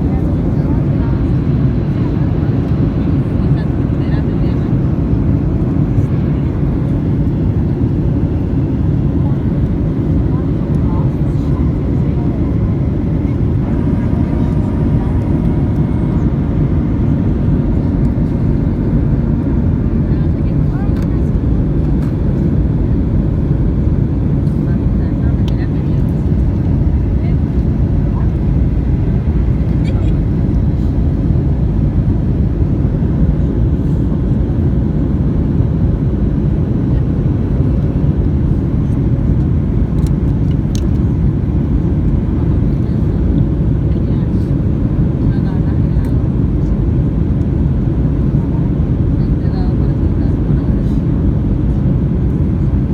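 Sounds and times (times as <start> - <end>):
airplane engines roaring in flight: 0.0 - 52.9.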